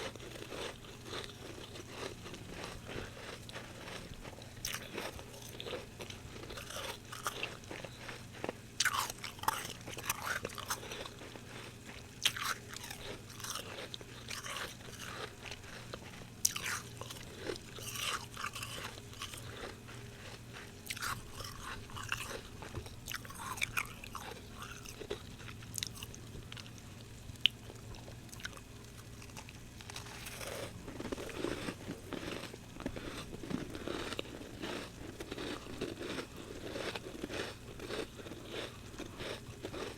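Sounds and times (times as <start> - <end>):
crunchy frost chewing: 0.0 - 39.9.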